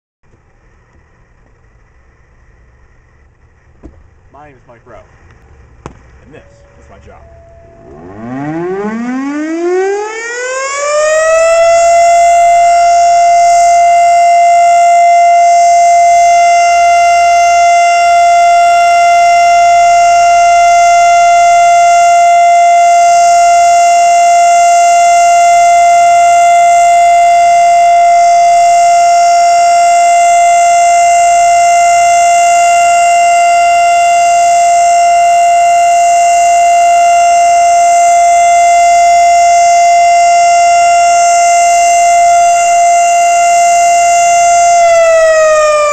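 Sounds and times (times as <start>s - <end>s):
warning siren spinning up: 6.2s - 45.9s.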